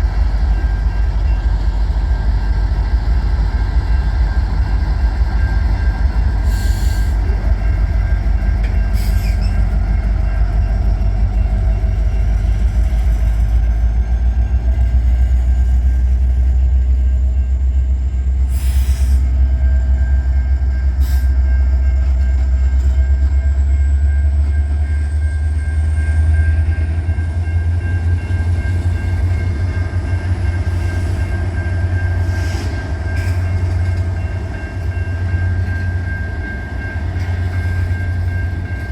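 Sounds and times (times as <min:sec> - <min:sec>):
locomotive engine rumble: 0:00.0 - 0:38.9.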